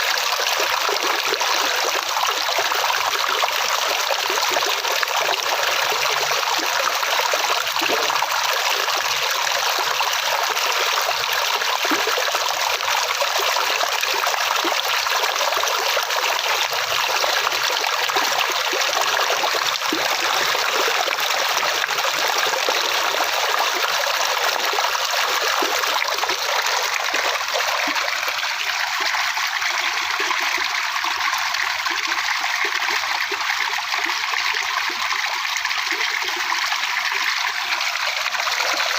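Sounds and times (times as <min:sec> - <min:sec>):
stream rushing and trickling: 0:00.0 - 0:38.9.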